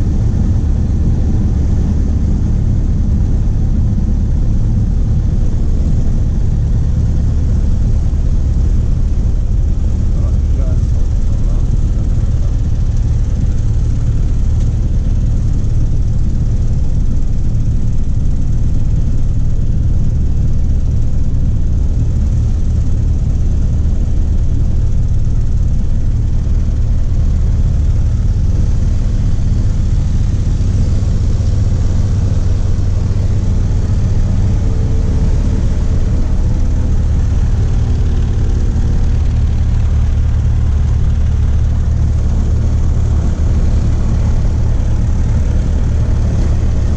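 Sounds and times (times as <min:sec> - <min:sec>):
propeller plane engine droning: 0:00.0 - 0:46.9.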